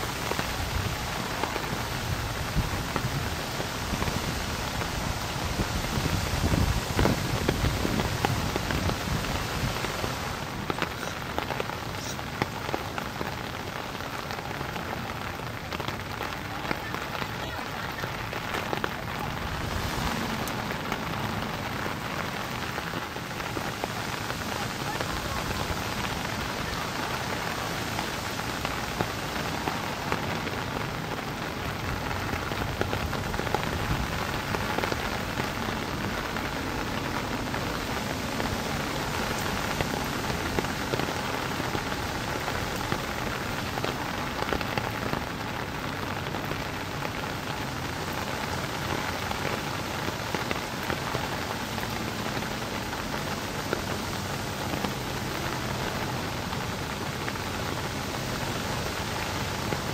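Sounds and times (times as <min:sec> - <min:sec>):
raindrops ticking: 0:00.0 - 0:59.9
steady rain: 0:00.0 - 0:59.9.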